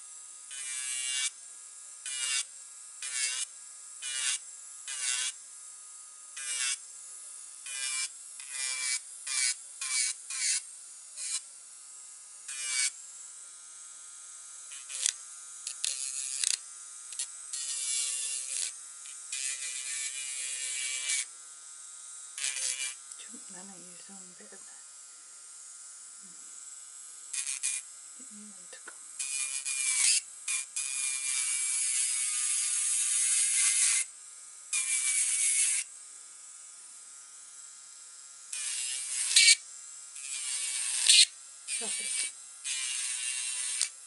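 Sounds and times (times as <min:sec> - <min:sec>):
nail drill whining and grinding: 0:00.0 - 0:05.5, 0:06.3 - 0:11.6, 0:12.4 - 0:13.4, 0:14.6 - 0:21.4, 0:22.3 - 0:24.8, 0:27.3 - 0:36.0, 0:38.4 - 0:44.0.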